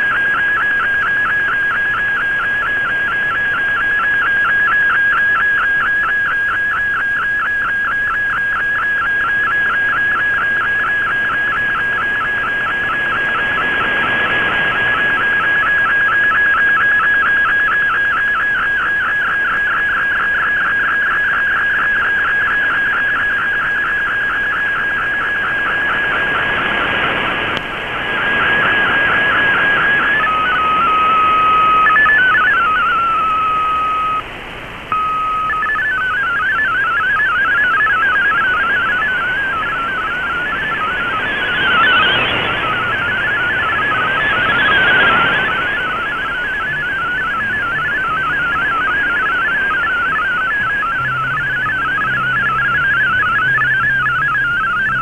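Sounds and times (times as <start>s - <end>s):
low stepping data tone: 0.0s - 55.0s
pulsing whistling radio tone: 0.0s - 55.0s
radio hiss: 8.4s - 55.0s.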